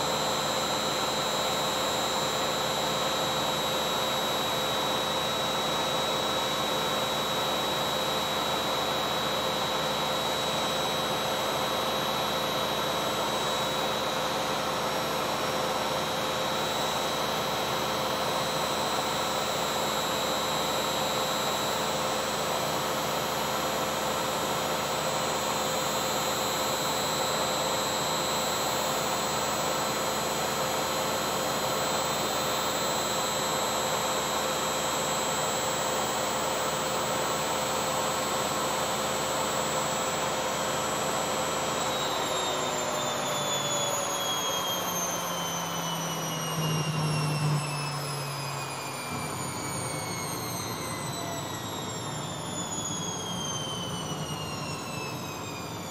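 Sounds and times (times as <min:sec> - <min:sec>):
washing machine spin whine: 0:00.0 - 0:55.9.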